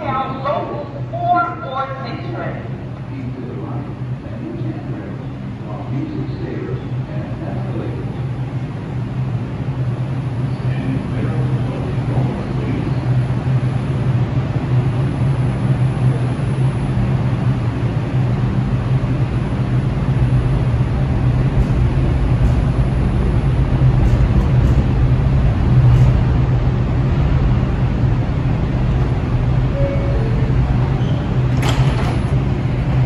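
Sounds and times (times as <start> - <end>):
subway train rumbling: 0.0 - 33.0.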